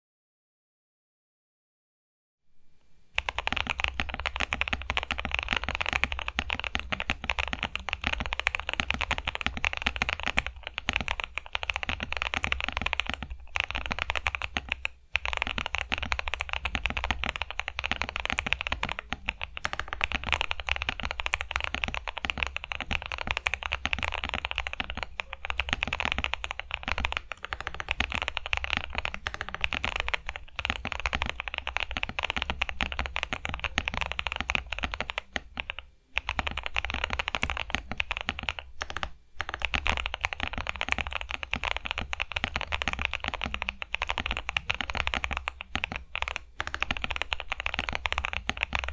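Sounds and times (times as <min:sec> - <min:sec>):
mechanical keyboard typing: 0:03.2 - 0:48.9.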